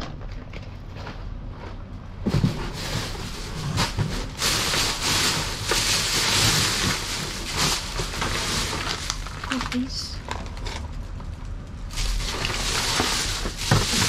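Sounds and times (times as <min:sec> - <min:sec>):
plastic bags rustling and crinkling: 0:02.3 - 0:14.0.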